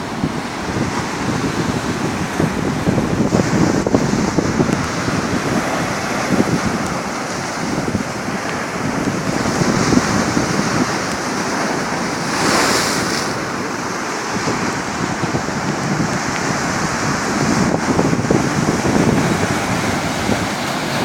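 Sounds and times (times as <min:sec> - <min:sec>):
sea waves breaking: 0:00.0 - 0:21.0
wind buffeting microphone: 0:00.0 - 0:21.0.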